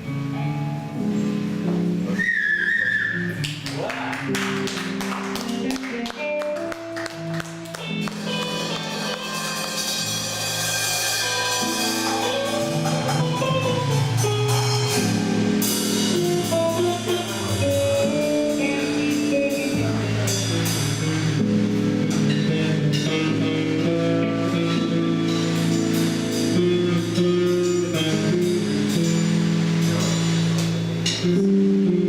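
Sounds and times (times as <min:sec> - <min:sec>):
band playing a song: 0:00.0 - 0:32.0
drum kit: 0:00.0 - 0:32.0.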